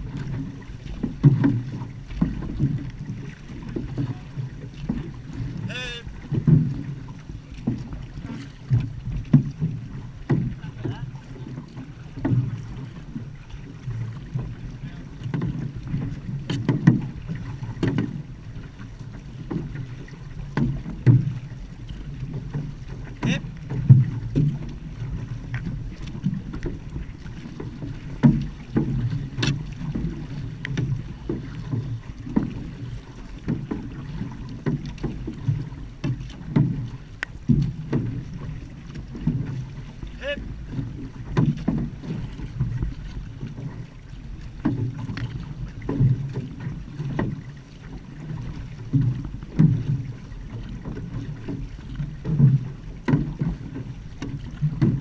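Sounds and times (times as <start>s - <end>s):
low rumble of water and wind: 0.0s - 55.0s
paddle strokes splashing in water: 0.0s - 55.0s.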